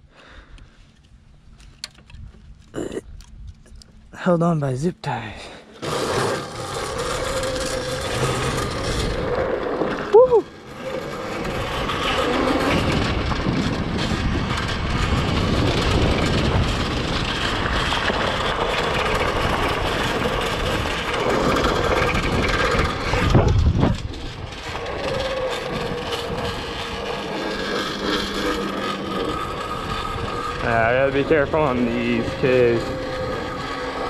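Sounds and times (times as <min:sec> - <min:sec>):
tyres rushing on dirt trail: 0:05.1 - 0:34.0
low rumble: 0:05.2 - 0:34.0
electric motor whine: 0:05.7 - 0:34.0
wind on microphone: 0:05.8 - 0:34.0.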